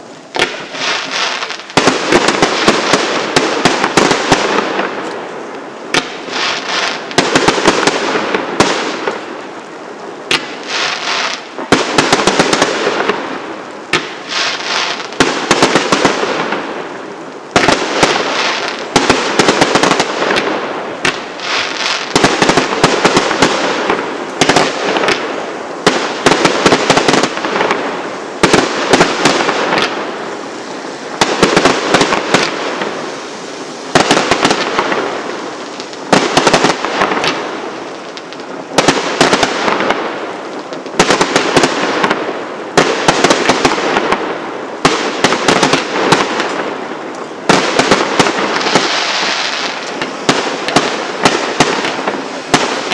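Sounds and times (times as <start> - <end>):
fireworks crackling: 0.0 - 52.9.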